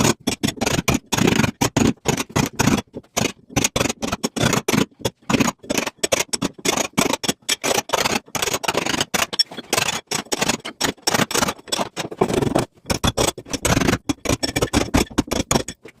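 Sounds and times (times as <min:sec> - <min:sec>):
masonry being chipped and scraped: 0:00.0 - 0:16.0.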